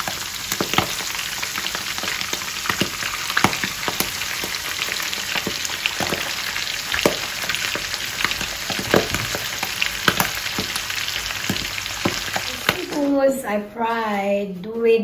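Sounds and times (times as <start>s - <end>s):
seafood frying in hot oil: 0.0s - 13.0s.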